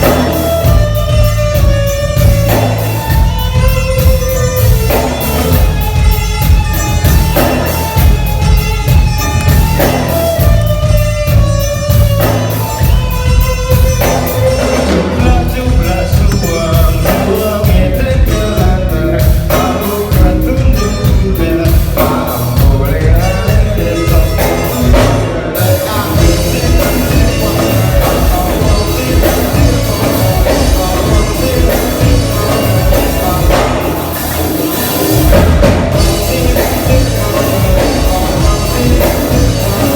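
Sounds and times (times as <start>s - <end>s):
drum kit beat: 0.0s - 39.9s
guitar: 0.0s - 39.9s
live rock band playing: 0.0s - 39.9s.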